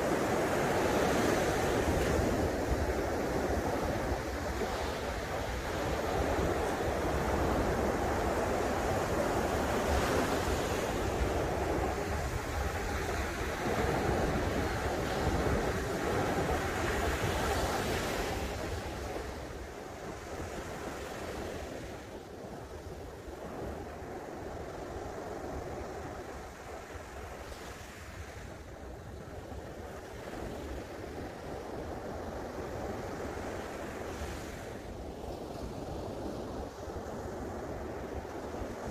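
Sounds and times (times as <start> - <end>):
ocean surf on sandy beach: 0.0 - 38.9
wind rumble on microphone: 0.0 - 38.9.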